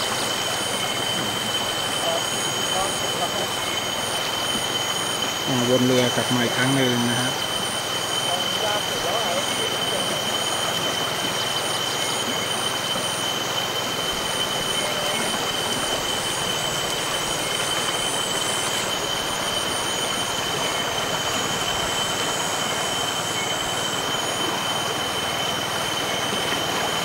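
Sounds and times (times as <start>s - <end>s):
faint high pulsing: 0.0s - 27.0s
high-pitched insect drone: 0.0s - 27.0s.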